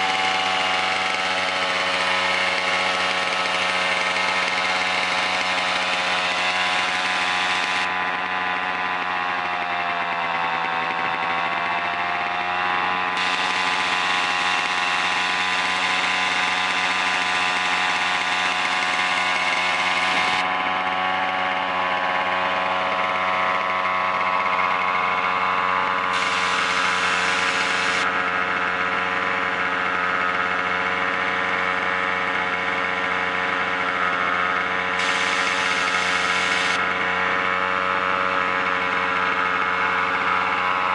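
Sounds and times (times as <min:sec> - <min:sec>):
small stationary engine running: 0:00.0 - 0:40.9.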